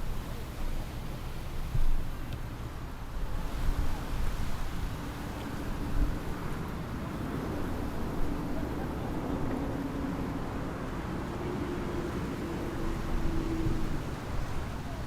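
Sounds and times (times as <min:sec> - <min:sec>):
rumble of wind and water: 0:00.0 - 0:15.0.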